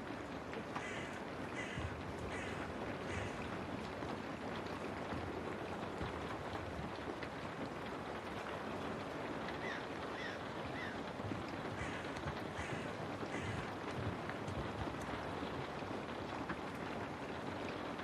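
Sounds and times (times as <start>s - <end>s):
rain pattering on a window: 0.0s - 18.0s.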